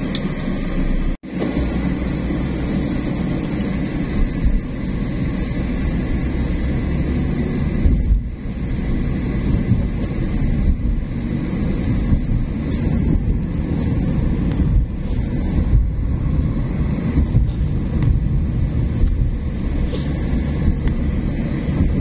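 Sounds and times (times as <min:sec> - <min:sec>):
car driving rumble: 0:00.0 - 0:22.0
wind noise on microphone: 0:00.0 - 0:22.0.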